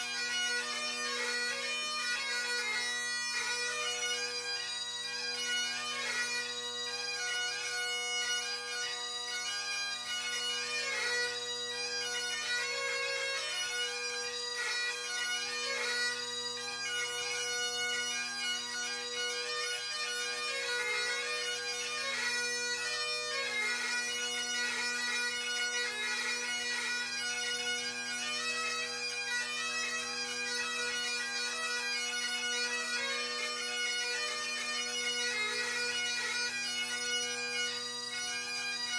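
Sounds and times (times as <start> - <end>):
bagpipe chanter melody: 0.0 - 38.9
bagpipe drones humming: 0.0 - 38.9.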